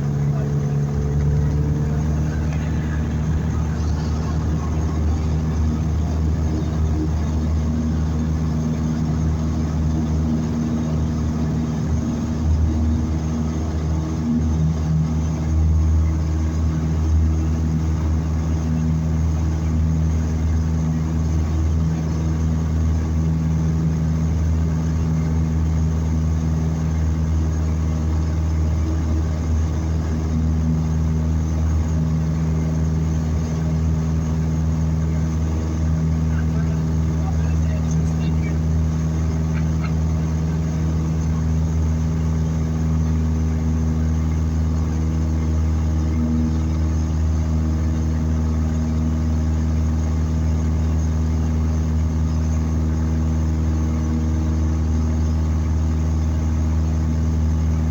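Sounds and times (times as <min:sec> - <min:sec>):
small airplane engine droning: 0:00.0 - 0:57.9.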